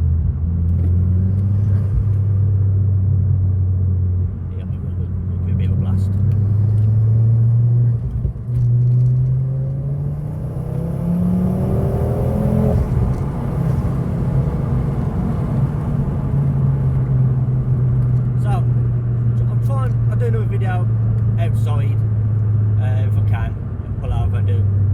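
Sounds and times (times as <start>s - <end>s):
car engine accelerating hard: 0.0s - 24.9s.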